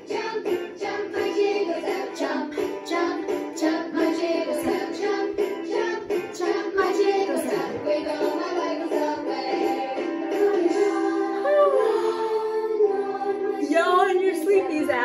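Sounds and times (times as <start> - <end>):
children's dance song: 0.0 - 15.0.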